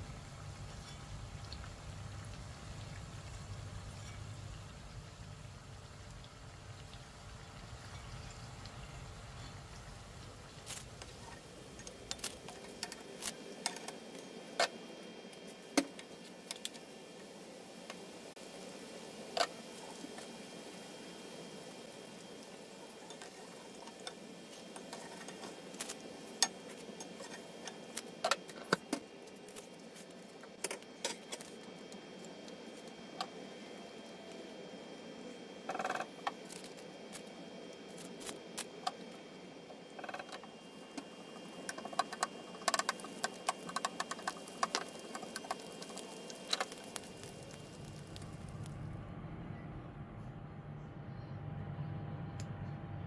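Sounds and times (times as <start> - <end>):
hot oil sizzling: 0.0 - 48.9
crackles and pops: 0.2 - 18.4, 19.1 - 35.0, 35.6 - 49.0.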